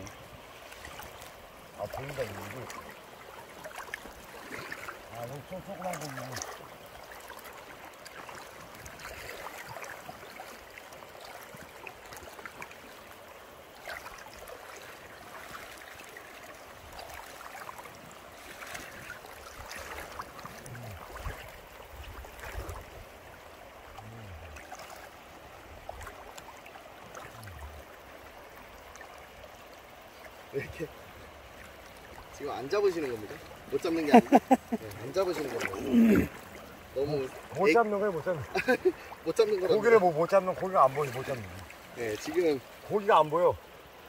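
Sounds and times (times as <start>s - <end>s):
running stream water: 0.0s - 44.0s
water sloshing and splashing: 0.0s - 44.0s.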